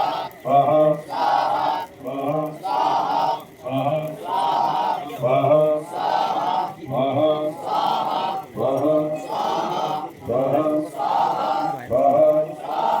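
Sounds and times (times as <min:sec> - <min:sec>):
rhythmic chanting of mantras: 0:00.0 - 0:13.0.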